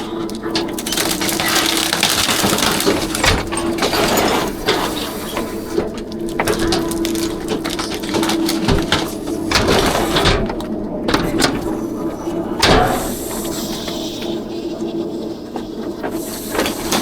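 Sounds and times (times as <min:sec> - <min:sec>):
garbage truck compacting trash: 0:00.0 - 0:17.0.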